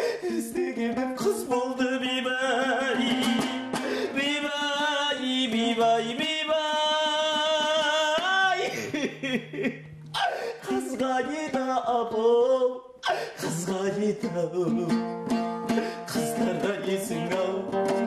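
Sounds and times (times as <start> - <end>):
plucked lute accompaniment: 0.4 - 12.8, 13.4 - 18.0.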